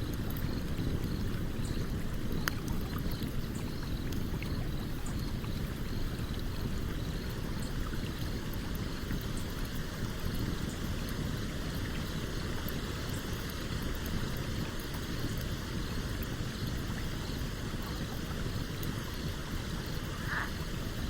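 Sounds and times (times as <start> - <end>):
campfire wood crackles: 0.0 - 21.0
stream flowing: 0.0 - 21.0.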